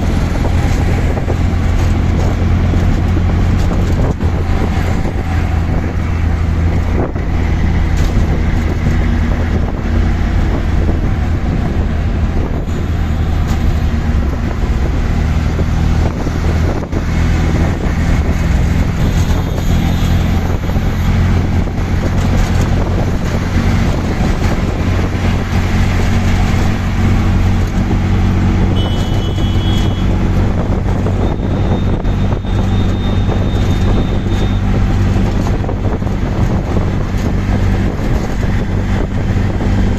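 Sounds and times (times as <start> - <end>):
auto rickshaw engine running: 0.0 - 39.9
road and traffic noise: 0.0 - 39.9.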